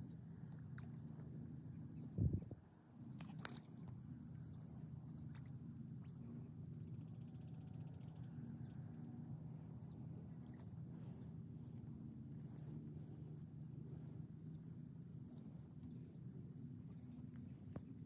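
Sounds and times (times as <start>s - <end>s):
small birds chirping: 0.0s - 17.7s
steady low hum: 0.0s - 18.0s.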